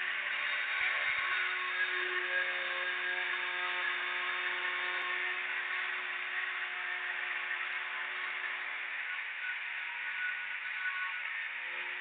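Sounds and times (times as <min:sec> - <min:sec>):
metal lathe running: 0:00.0 - 0:12.0.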